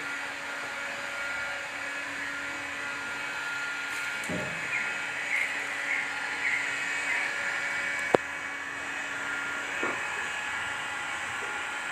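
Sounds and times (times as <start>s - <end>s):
heat gun blowing: 0.0s - 11.9s.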